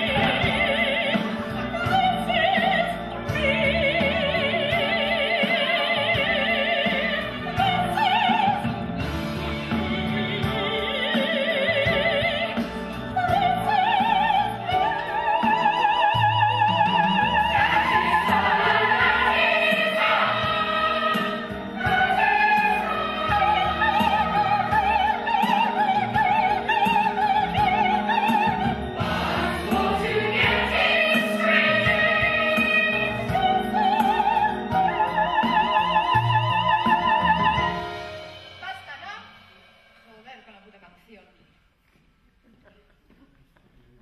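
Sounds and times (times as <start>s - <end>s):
operatic singing: 0.0s - 38.7s
classical orchestra: 0.0s - 39.0s.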